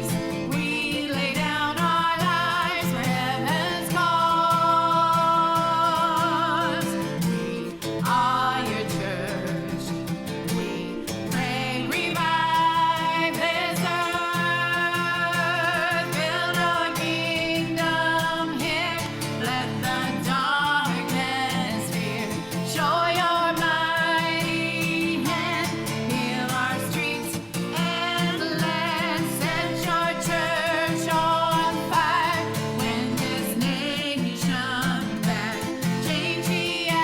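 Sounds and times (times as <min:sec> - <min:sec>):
person singing with vibrato: 0:00.0 - 0:37.0.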